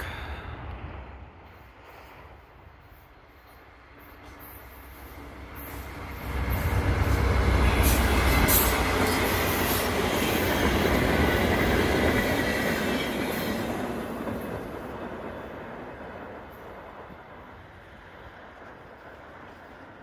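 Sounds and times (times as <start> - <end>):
diesel locomotive engine rumble: 0.0 - 20.0
train wheels on rails: 0.0 - 20.0.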